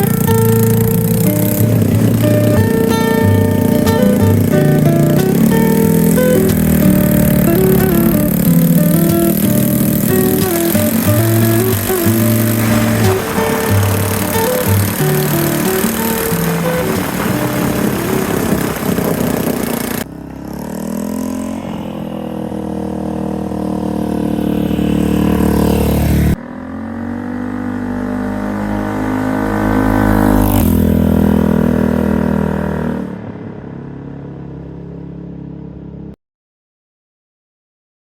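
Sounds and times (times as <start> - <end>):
motorcycle engine accelerating: 0.0 - 36.2.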